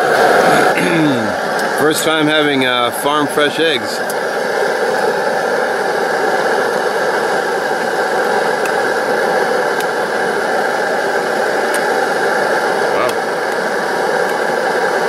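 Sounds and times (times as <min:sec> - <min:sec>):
camp stove burner hissing: 0:00.0 - 0:15.0.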